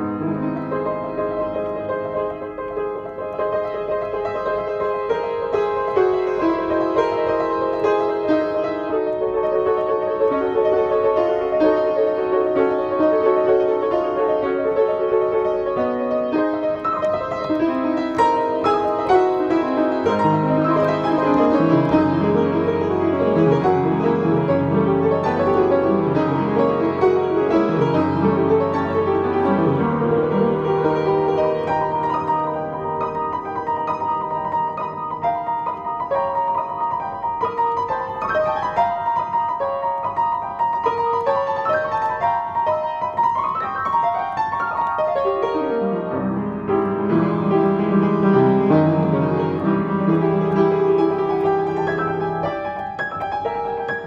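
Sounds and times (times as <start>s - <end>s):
solo piano classical piece: 0.0s - 54.0s.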